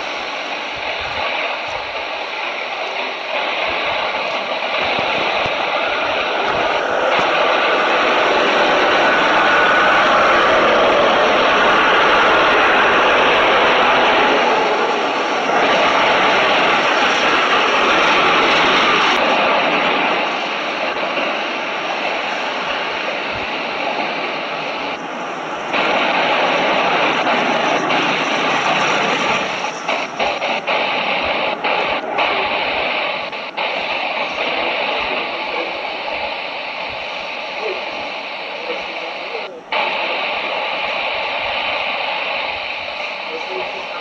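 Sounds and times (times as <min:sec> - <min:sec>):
jet engines roaring at takeoff: 0:00.0 - 0:44.0.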